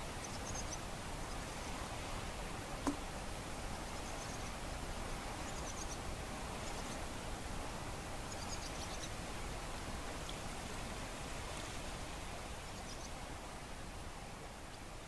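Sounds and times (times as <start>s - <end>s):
soft wash of calm sea: 0.0s - 15.0s.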